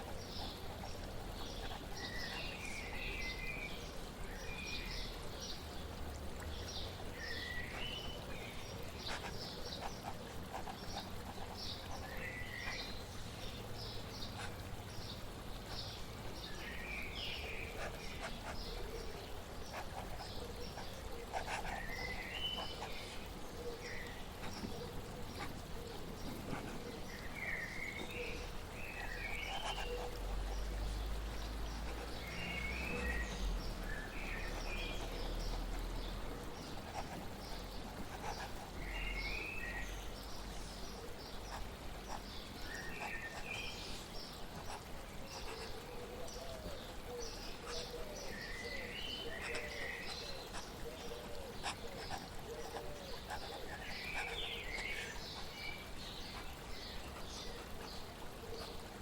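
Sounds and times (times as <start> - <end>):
birds chirping: 0.0 - 59.0
flowing water: 0.0 - 59.0.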